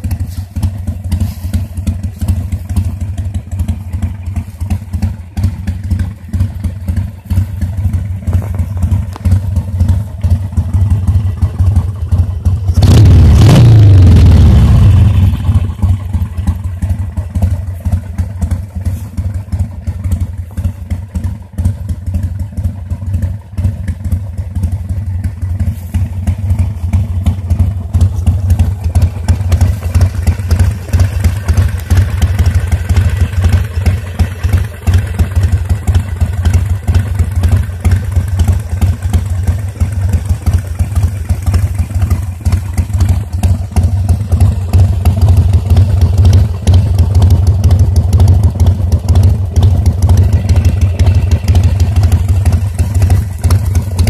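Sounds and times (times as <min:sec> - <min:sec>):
motorcycle engine idling loudly: 0:00.0 - 0:54.0.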